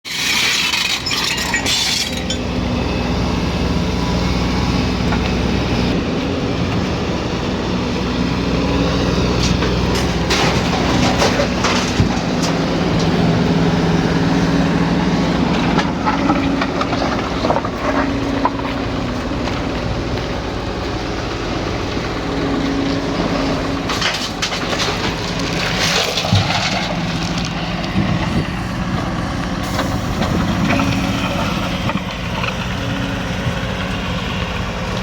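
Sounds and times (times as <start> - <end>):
diesel excavator engine running: 0.1 - 35.0.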